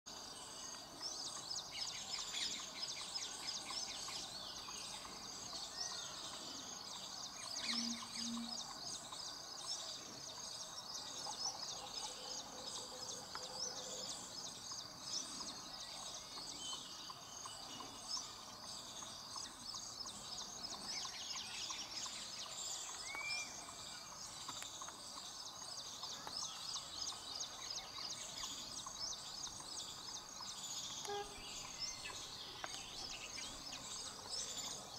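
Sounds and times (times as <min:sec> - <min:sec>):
small birds chirping: 0:00.1 - 0:34.9
insects calling: 0:00.4 - 0:12.5, 0:14.5 - 0:34.9.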